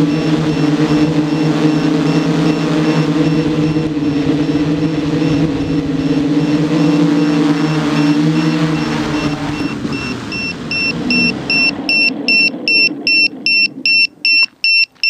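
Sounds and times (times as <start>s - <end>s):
engine running: 0.0s - 15.0s
high electronic beeping: 0.0s - 15.0s.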